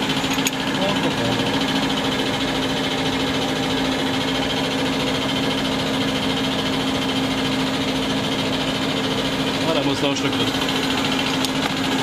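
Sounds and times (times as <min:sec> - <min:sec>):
injection pump test bench humming: 0:00.0 - 0:12.0.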